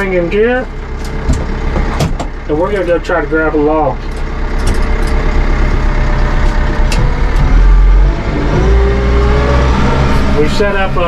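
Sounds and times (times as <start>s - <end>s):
steady whine: 0.0s - 11.0s
tractor diesel engine running: 0.0s - 11.0s.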